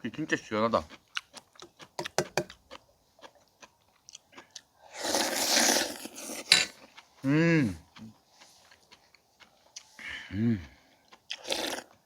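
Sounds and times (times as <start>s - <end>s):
crunching and chewing food: 0.0s - 12.0s.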